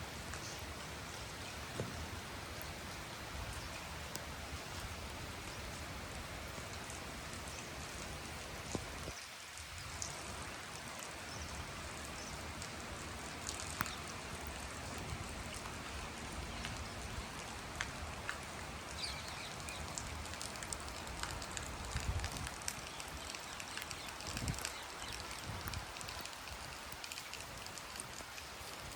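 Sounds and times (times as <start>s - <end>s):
raindrops ticking on surfaces: 0.0s - 28.9s
steady rain hiss: 0.0s - 28.9s.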